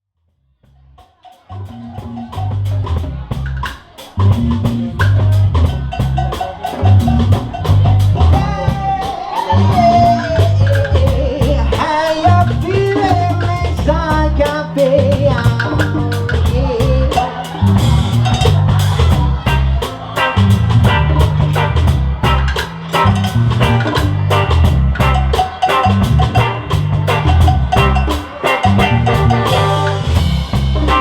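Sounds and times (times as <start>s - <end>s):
reggae bass and drums: 0.6s - 31.0s.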